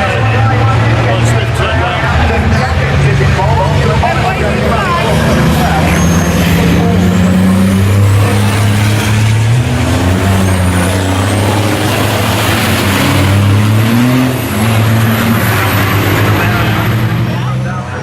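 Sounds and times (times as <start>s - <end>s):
race truck engines running hard: 0.0s - 18.0s.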